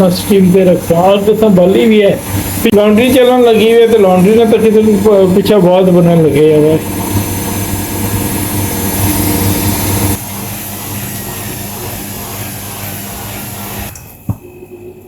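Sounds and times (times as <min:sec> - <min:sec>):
washing machine running: 0:00.0 - 0:15.0.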